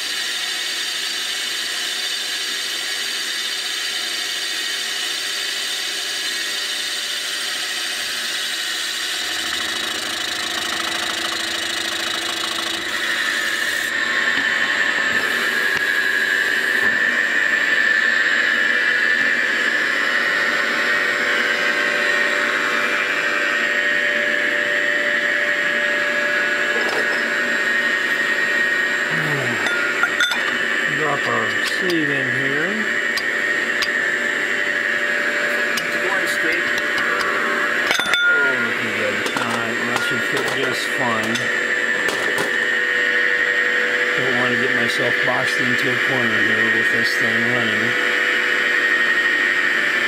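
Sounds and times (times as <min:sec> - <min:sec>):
milling machine cutting metal: 0:00.0 - 0:50.0.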